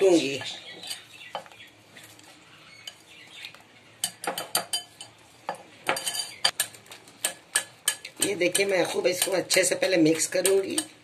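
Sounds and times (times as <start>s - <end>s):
whisk stirring wet mixture: 1.9s - 11.0s.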